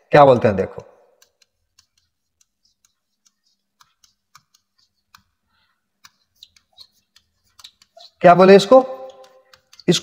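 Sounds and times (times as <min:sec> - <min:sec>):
stylus tapping on writing board: 0:01.1 - 0:10.0.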